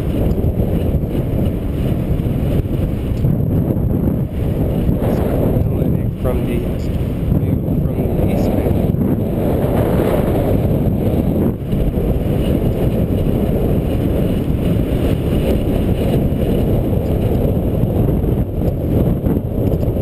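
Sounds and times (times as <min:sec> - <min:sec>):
bike tyres rolling on pavement: 0:00.0 - 0:20.0
wind buffeting microphone: 0:00.0 - 0:20.0.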